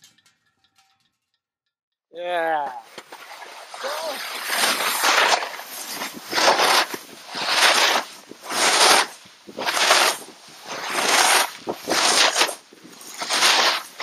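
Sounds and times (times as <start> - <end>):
snowboard edges scraping snow: 2.2 - 14.0.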